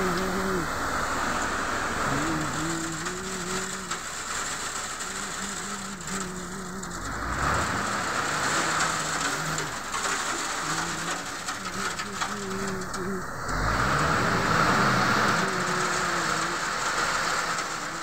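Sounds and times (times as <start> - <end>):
vehicle road noise: 0.0 - 18.0.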